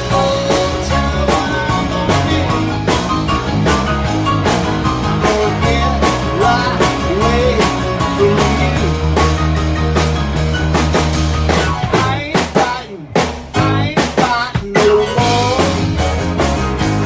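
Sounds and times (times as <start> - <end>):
rock band playing: 0.0 - 17.0
steady drum beat: 0.0 - 17.0.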